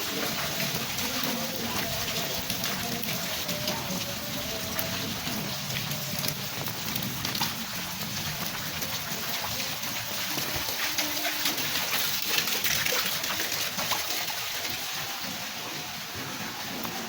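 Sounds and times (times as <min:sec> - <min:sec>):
heavy rain falling: 0:00.0 - 0:17.0
raindrops ticking on surfaces: 0:00.0 - 0:17.0.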